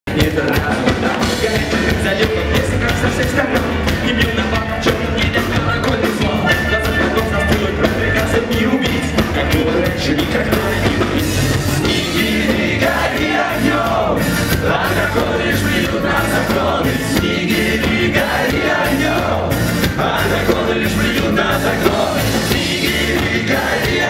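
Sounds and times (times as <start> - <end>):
live rock band playing: 0.1 - 24.0.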